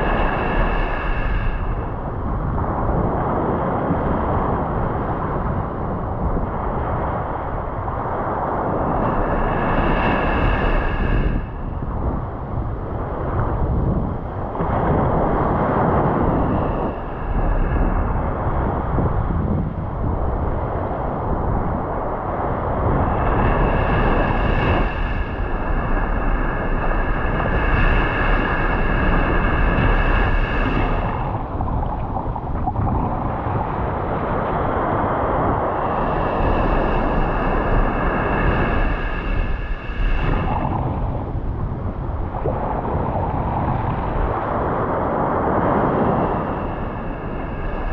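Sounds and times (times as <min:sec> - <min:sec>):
surf: 0:00.0 - 0:47.9
wind rumbling on microphone: 0:00.0 - 0:47.9.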